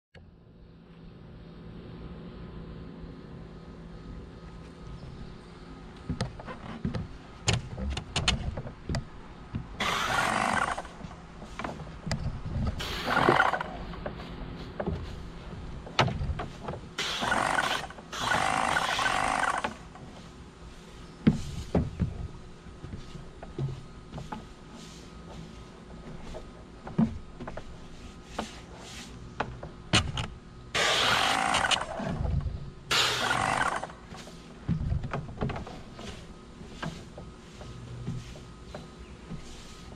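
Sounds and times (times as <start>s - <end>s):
brush scrubbing wooden stairs: 6.1s - 30.1s, 30.8s - 39.9s.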